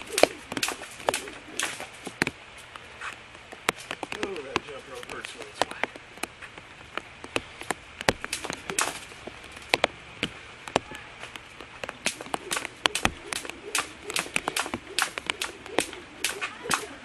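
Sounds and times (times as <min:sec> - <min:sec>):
jump rope slapping ground: 0:00.0 - 0:17.0.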